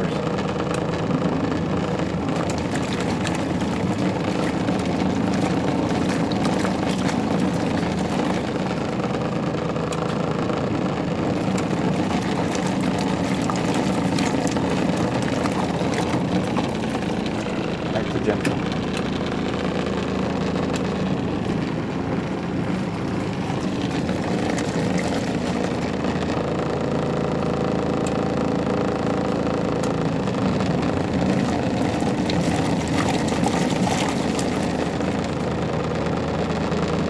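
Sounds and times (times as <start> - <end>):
water sloshing: 0.0 - 27.0, 29.7 - 36.4
washing machine motor hum: 0.0 - 37.0.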